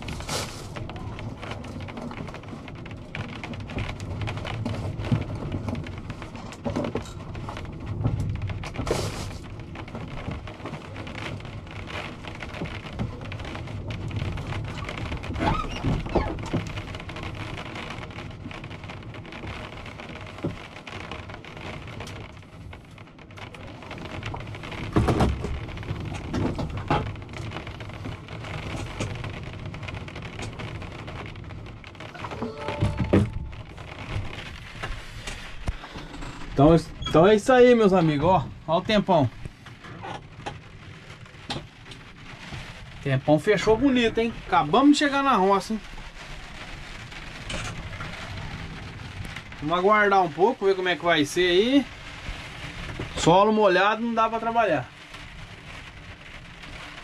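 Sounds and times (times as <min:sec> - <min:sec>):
heavy rain on cab roof and glass: 0:00.0 - 0:57.0.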